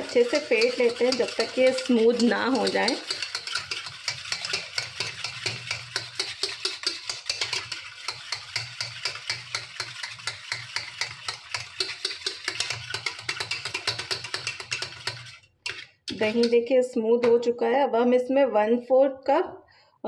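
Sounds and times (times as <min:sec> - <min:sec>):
whisk scraping metal pot: 0:00.0 - 0:16.7.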